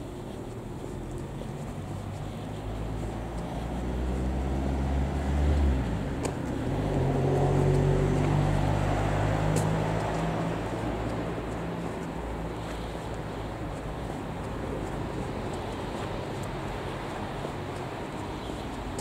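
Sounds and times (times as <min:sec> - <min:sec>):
deep engine hum: 0:00.0 - 0:19.0
higher engine hum: 0:00.0 - 0:19.0.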